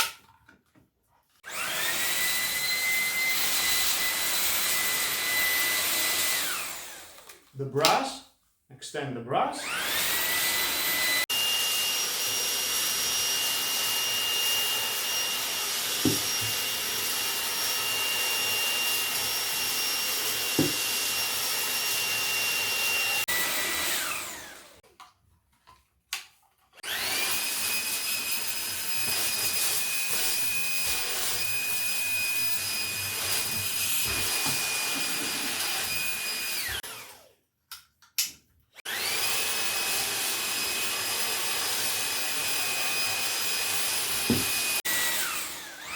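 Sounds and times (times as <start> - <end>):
vacuum cleaner motor whine: 1.5 - 7.3, 9.6 - 24.8, 26.8 - 37.3, 38.9 - 45.9.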